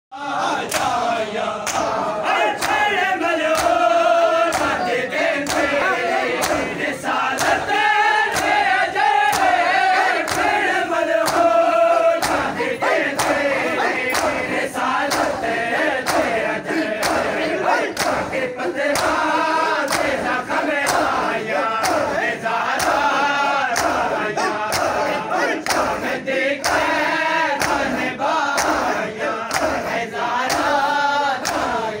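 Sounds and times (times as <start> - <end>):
men chanting together: 0.1 - 32.0.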